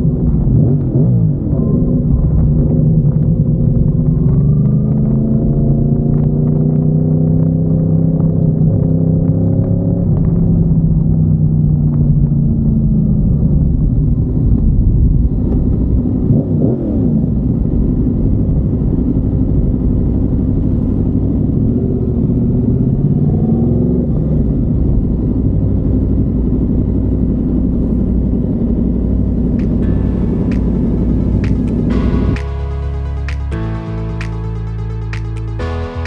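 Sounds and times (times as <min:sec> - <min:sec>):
motorcycle engine revving: 0:00.0 - 0:11.7, 0:12.3 - 0:34.4.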